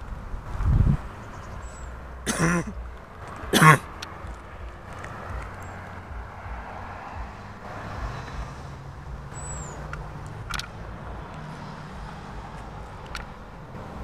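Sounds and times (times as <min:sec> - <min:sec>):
distant vehicle engine rumble: 0:00.0 - 0:14.0.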